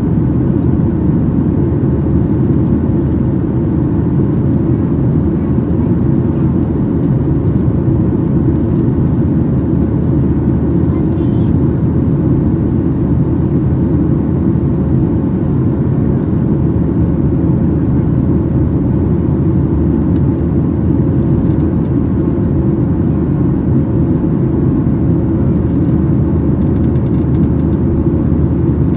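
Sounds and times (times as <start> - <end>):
jet engines rumbling: 0.0 - 28.9.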